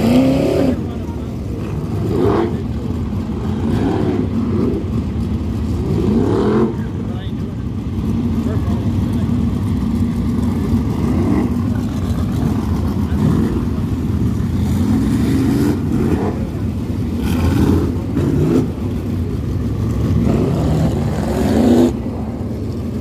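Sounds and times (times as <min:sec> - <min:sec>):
race car engines running: 0:00.0 - 0:23.0
race cars passing close by: 0:00.0 - 0:23.0.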